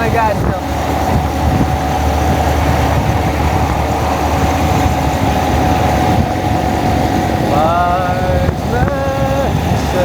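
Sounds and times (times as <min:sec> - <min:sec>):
steady hum: 0:00.0 - 0:10.0
wind noise on microphone: 0:00.0 - 0:10.0.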